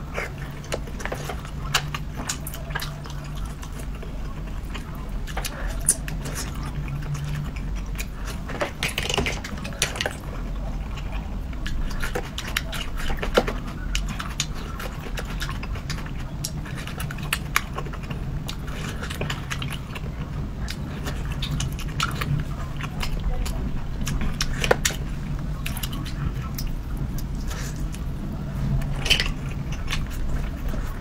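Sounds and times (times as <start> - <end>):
chewing and wet mouth sounds: 0.0 - 31.0
steady low hum: 0.0 - 31.0.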